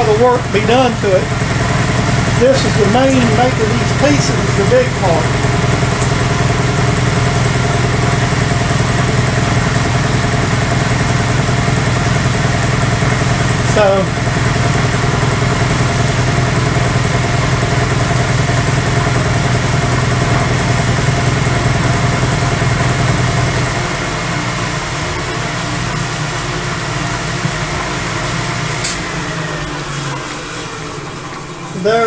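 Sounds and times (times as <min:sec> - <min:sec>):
milling machine hum: 0:00.0 - 0:32.0.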